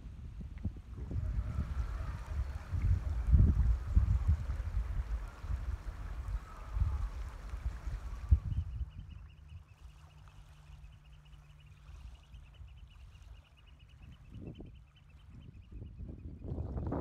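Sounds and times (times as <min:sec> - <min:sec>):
low steady hum: 0:00.0 - 0:17.0
wind rumble on microphone: 0:00.0 - 0:17.0.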